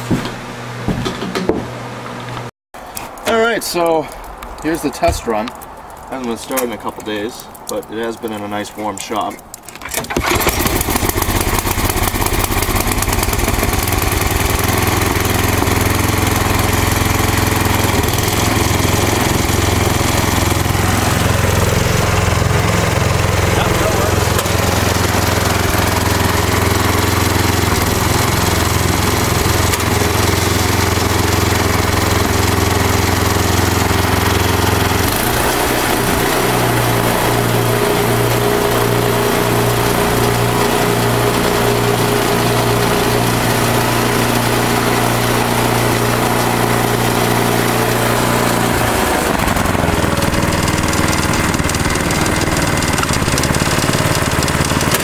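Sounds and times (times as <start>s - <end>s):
snowblower engine running: 9.9s - 55.0s.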